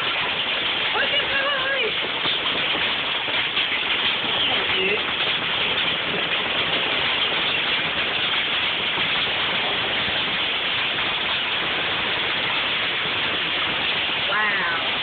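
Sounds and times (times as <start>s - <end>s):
heavy rain and hail: 0.0s - 15.0s
wind: 0.0s - 15.0s.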